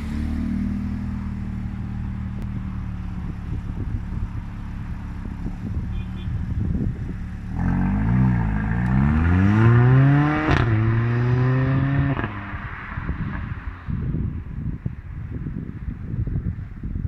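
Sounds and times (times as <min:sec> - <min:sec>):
car engine revving: 0:00.0 - 0:13.7.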